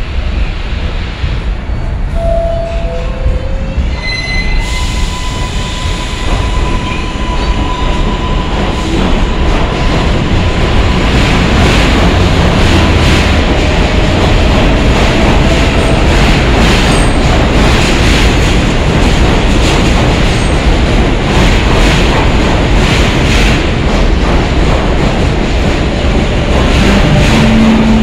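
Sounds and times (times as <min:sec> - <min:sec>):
subway train rumbling past: 0:00.0 - 0:28.0.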